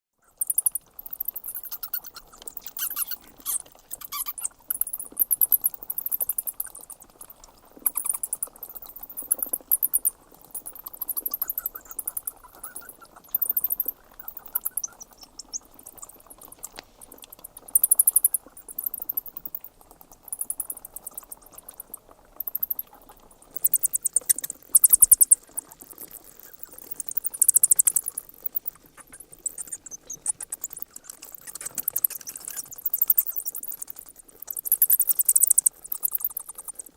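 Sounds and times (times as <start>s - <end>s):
bats squeaking and chittering: 0.2s - 36.9s.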